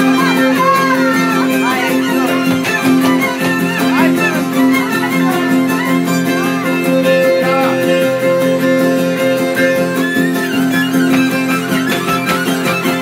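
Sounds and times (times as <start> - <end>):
acoustic guitar strumming: 0.0 - 13.0
fiddle playing fast dance tune: 0.0 - 13.0.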